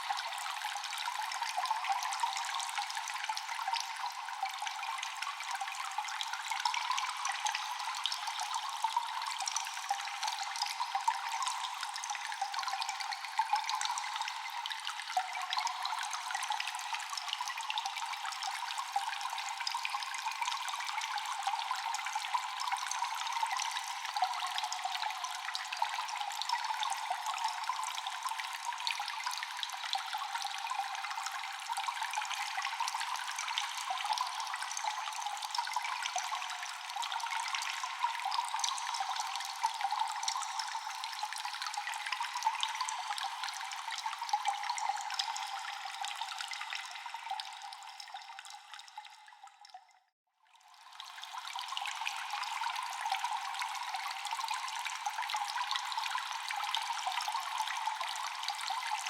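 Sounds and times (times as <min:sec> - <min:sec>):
water dripping and trickling: 0:00.0 - 0:59.0.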